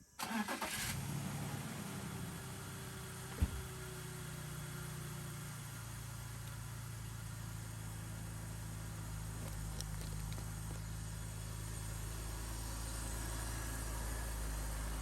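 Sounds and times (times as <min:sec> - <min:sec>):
car engine idling: 0:00.2 - 0:15.0.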